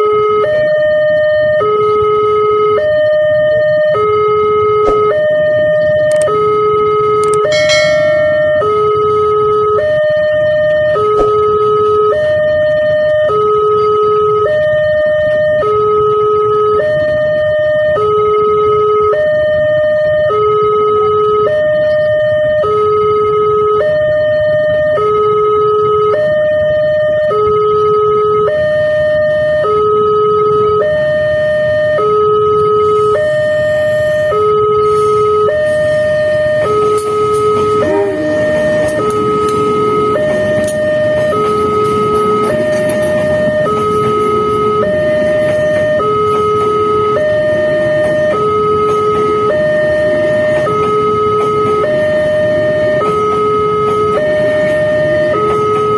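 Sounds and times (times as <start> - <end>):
two-tone crossing alarm: 0.0 - 55.9.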